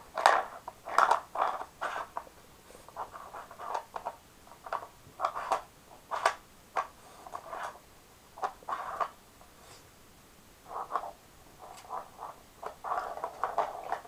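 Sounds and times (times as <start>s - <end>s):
dog scraping plastic puzzle toy: 0.1s - 7.8s, 8.4s - 9.2s, 10.7s - 14.0s.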